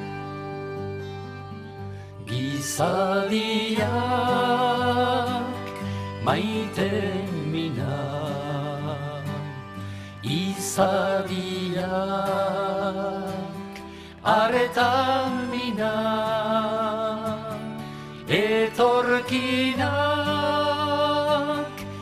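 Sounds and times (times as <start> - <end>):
acoustic guitar: 0.0 - 22.0
men singing: 2.3 - 9.4, 10.2 - 13.6, 14.2 - 17.7, 18.3 - 22.0.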